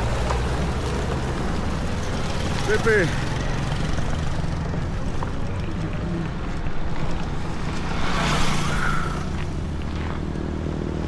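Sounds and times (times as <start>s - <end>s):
vehicle passing: 0.0s - 10.8s
road rumble: 0.0s - 11.0s.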